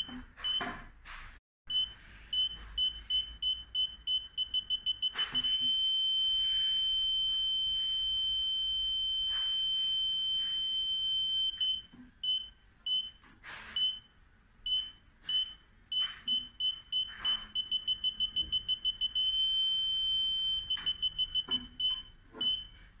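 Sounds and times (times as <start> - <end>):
parking sensor beeping: 1.7 - 13.2, 13.8 - 14.1, 14.7 - 22.8.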